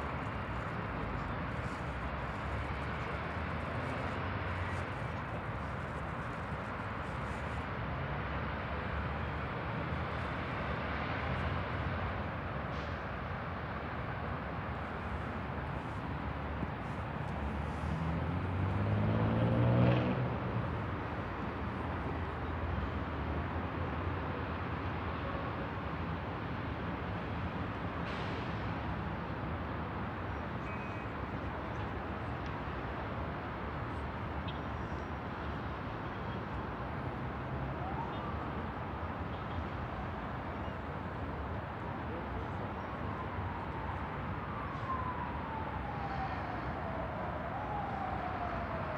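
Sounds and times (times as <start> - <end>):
city traffic hum: 0.0 - 48.9.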